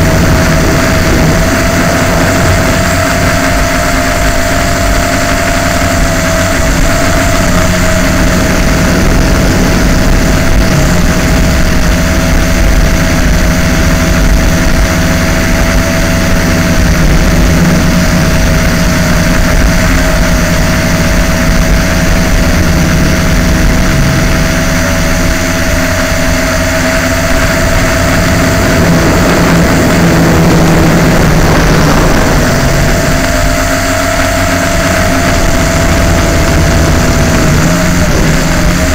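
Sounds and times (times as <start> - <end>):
drone motors whining: 0.0 - 38.9.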